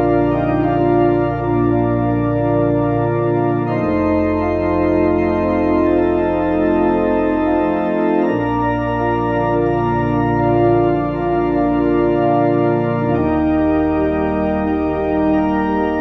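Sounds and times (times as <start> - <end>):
church organ playing a hymn: 0.0 - 16.0.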